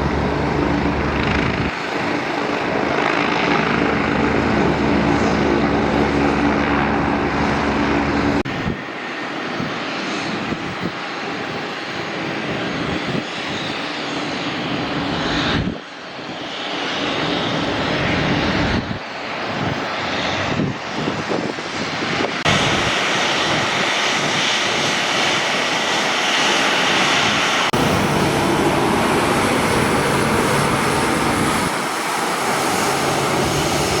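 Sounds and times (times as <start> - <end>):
airliner engines running: 0.0 - 34.0.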